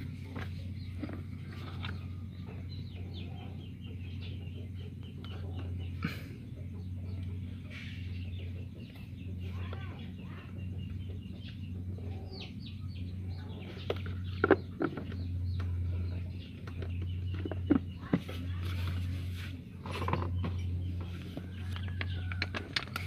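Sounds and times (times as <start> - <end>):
chickens calling: 0.0 - 23.0
steady low hum: 0.0 - 23.0.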